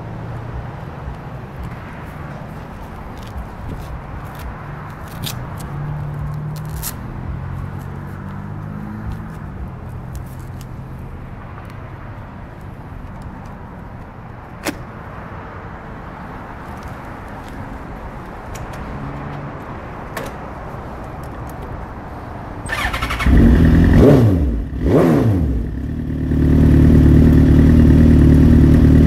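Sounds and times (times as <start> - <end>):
vehicle engine noise: 0.0 - 29.0.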